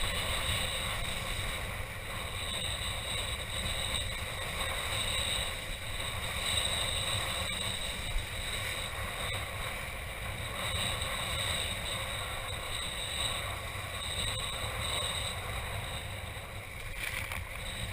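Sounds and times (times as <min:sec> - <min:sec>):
strong wind buffeting microphone: 0:00.0 - 0:17.9.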